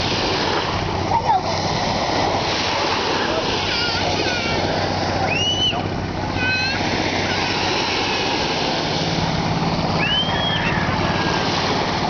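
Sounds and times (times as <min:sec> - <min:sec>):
boat engine running at low speed: 0:00.0 - 0:12.0
water noise: 0:00.0 - 0:12.0.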